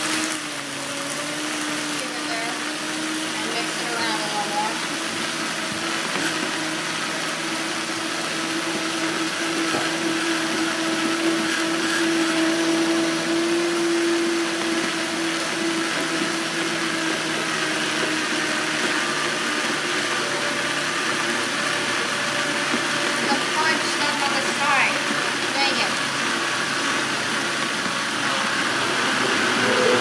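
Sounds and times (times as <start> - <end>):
blender running: 0.0 - 30.0.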